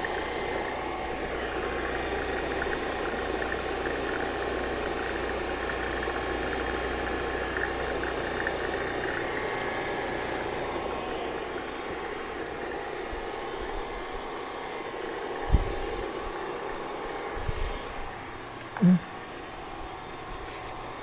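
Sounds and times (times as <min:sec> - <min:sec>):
pressure washer pump humming: 0:00.0 - 0:21.0.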